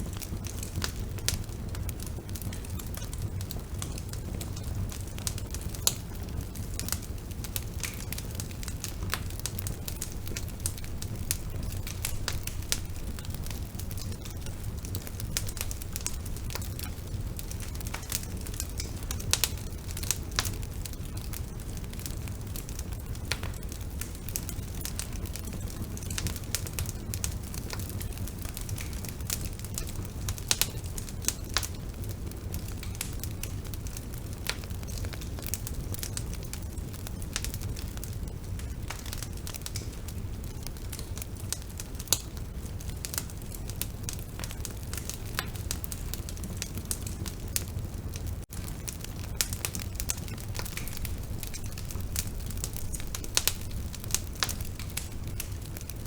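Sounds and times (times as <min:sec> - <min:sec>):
bonfire low rumble: 0:00.0 - 0:56.0
fire crackling: 0:00.0 - 0:56.0
fire sharp pops: 0:00.0 - 0:56.0.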